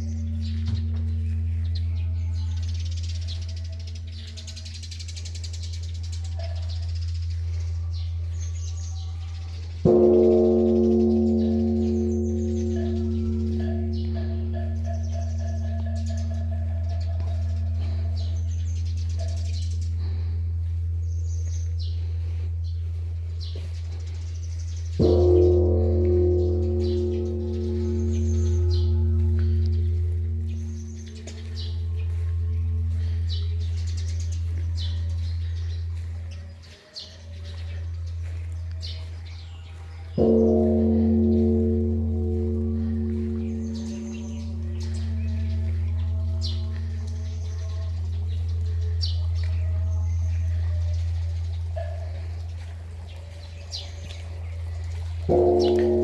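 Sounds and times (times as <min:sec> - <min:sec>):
large bell ringing: 0:00.0 - 0:05.1, 0:06.1 - 0:36.8, 0:37.5 - 0:56.0
small birds chirping: 0:00.0 - 0:56.0.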